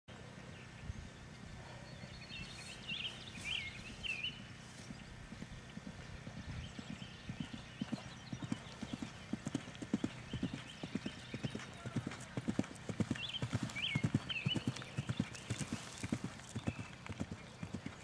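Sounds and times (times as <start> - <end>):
horse galloping on grass: 3.0 - 18.0.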